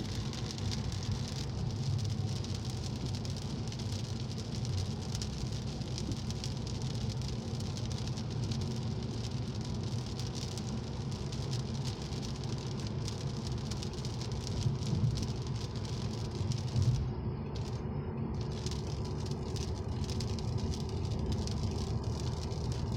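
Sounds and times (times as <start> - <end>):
low vehicle drone: 0.0 - 22.9
rain pattering: 0.0 - 22.9.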